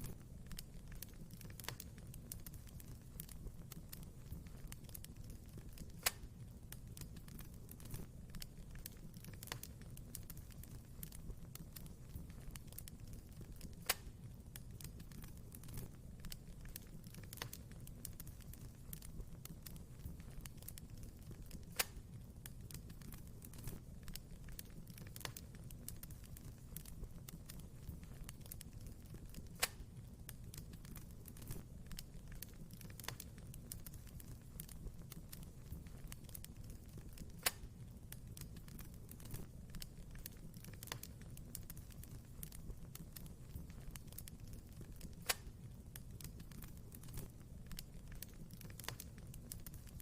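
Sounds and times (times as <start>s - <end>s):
wood fire burning and crackling: 0.0s - 50.0s.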